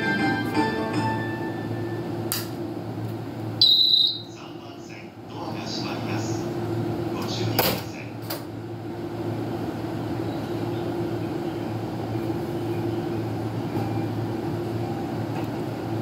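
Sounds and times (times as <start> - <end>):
electric train humming: 0.0 - 7.5, 8.5 - 16.0.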